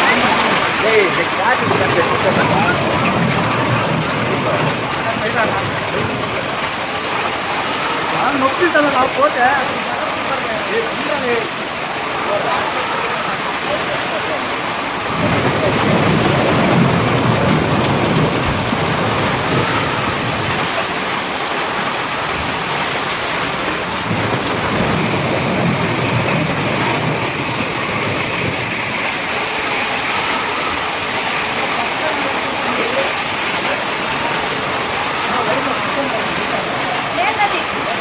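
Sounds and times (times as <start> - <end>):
hail and heavy rain clattering: 0.0 - 38.0.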